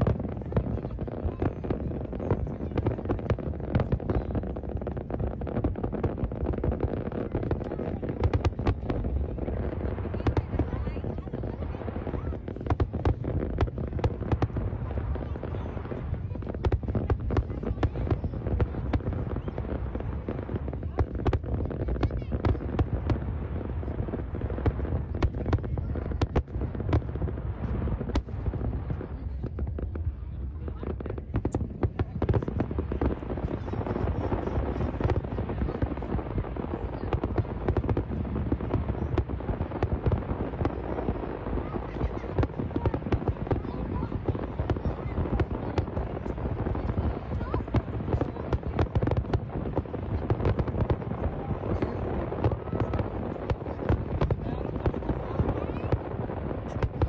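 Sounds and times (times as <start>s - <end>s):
continuous low rumble: 0.0s - 57.0s
fireworks bangs: 0.0s - 57.0s.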